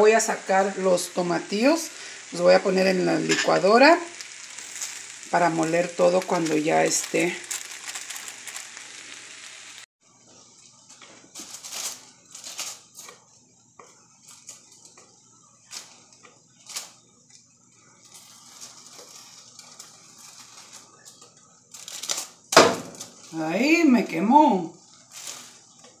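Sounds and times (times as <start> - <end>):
foil rustling: 0.0 - 15.0, 15.6 - 26.0.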